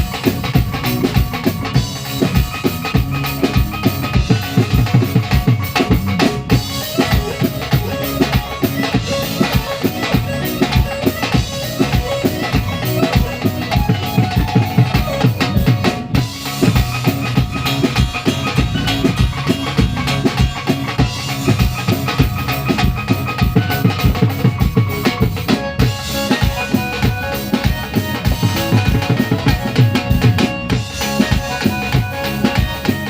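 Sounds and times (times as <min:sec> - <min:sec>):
heavy bass drum beat: 0:00.0 - 0:33.0.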